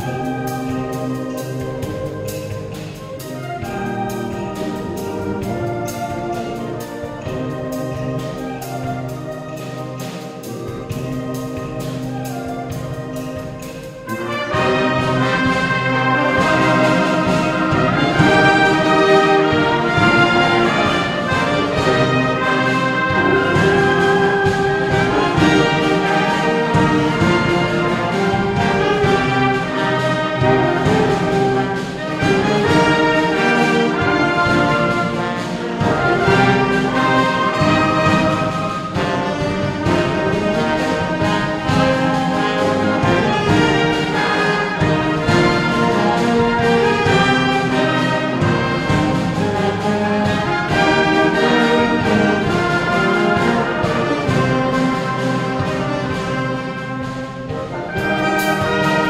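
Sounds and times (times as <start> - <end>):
orchestral music: 0.0 - 59.0.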